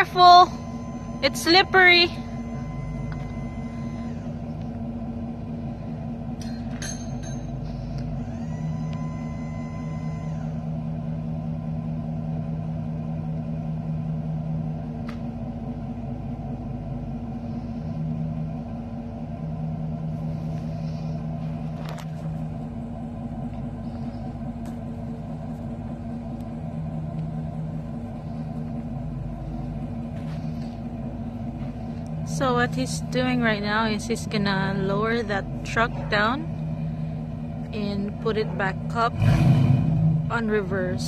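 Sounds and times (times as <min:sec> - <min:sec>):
faint steady whine: 0:00.0 - 0:39.2
vehicle engine idling: 0:00.0 - 0:41.0.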